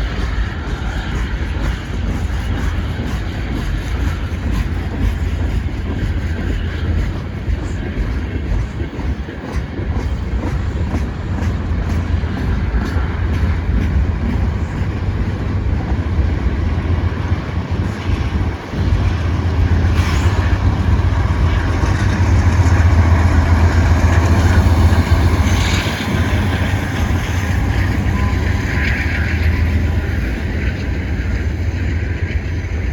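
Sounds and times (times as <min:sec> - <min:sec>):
freight train rumbling past: 0:00.0 - 0:32.9
train cars clanking and rattling: 0:00.0 - 0:32.9.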